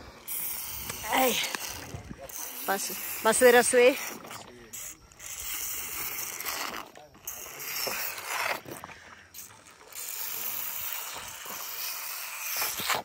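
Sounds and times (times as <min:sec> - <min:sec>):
elephant calf sucking and slurping: 0:00.0 - 0:13.0.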